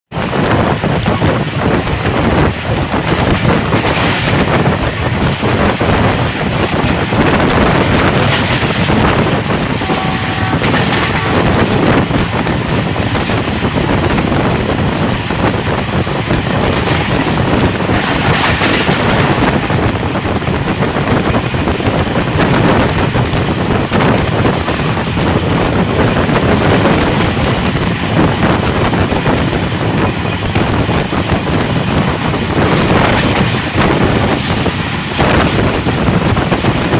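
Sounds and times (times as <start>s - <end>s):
moving train: 0.1s - 36.9s
wind on microphone: 0.1s - 36.9s.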